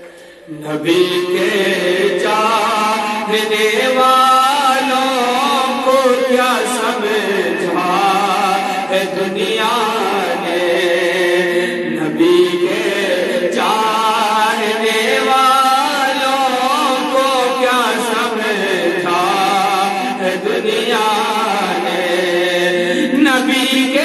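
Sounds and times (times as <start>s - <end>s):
man singing into microphone: 0.0s - 24.0s.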